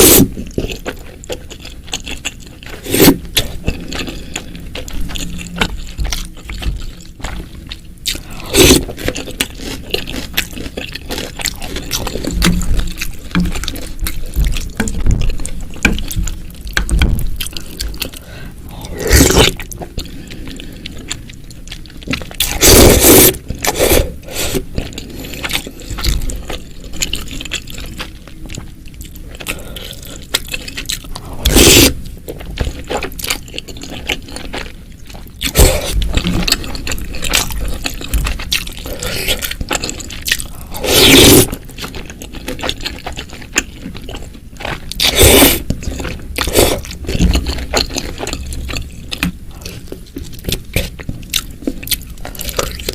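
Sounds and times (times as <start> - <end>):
wet chewing and mouth clicks: 0.0 - 52.9.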